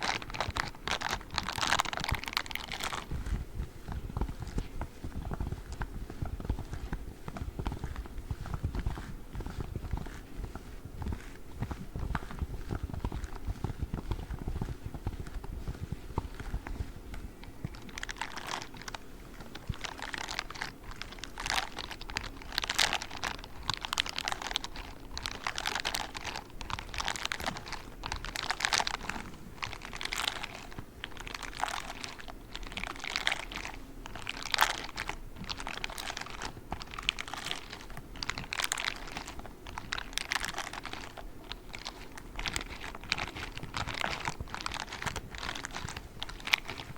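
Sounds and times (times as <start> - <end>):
gloves rubbing and scratching: 0.0 - 46.9.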